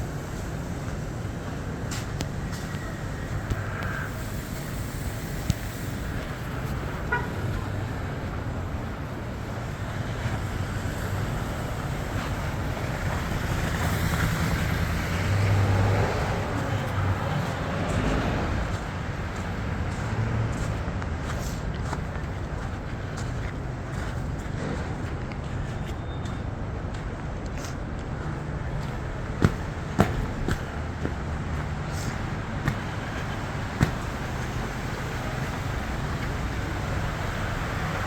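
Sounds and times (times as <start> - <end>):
road noise: 0.0 - 38.0
traffic engines humming: 0.0 - 38.0.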